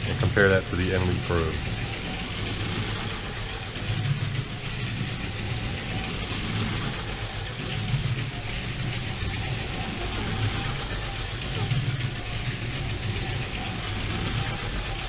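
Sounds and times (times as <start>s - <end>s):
plastic wheels rolling on track: 0.0s - 15.0s
toy train motor whirring: 0.0s - 15.0s.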